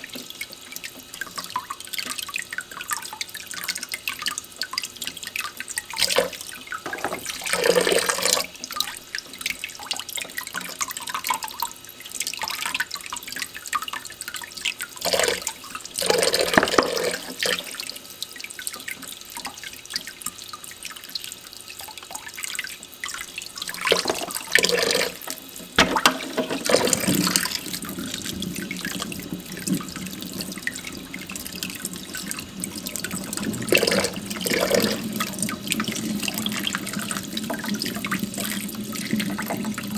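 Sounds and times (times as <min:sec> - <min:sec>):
tap water running into a sink: 0:00.0 - 0:39.9.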